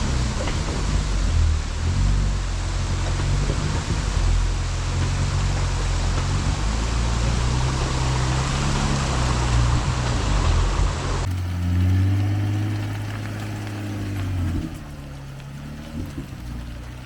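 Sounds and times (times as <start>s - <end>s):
car engine running: 0.0s - 17.0s
tires rushing: 0.0s - 17.0s.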